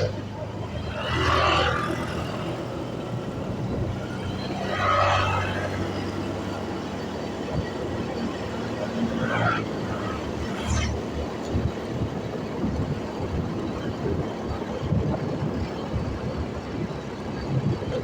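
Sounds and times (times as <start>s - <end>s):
motorcycle engine and road noise: 0.0s - 18.0s
wind buffeting microphone: 0.0s - 18.0s.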